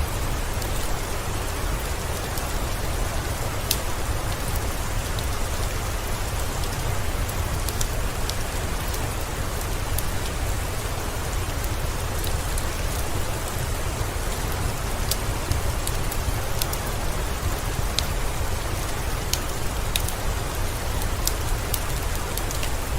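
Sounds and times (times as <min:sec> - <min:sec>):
steady rain falling: 0:00.0 - 0:22.9
wood fire crackling: 0:00.0 - 0:22.9.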